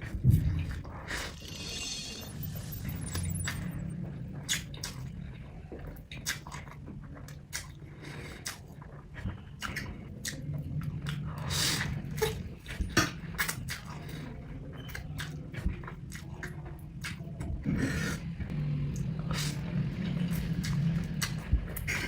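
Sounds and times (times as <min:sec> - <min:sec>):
steady low hum: 0:00.0 - 0:22.0
chewing and biting noodles: 0:04.2 - 0:22.0.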